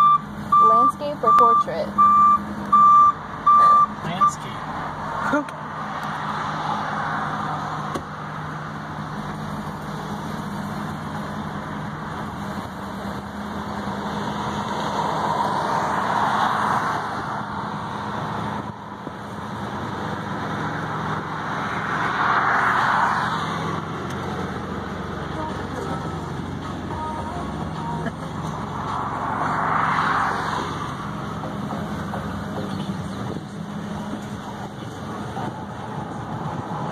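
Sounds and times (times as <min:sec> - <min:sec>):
truck engine hum: 0:00.0 - 0:36.9
tyre and road noise: 0:00.0 - 0:36.9.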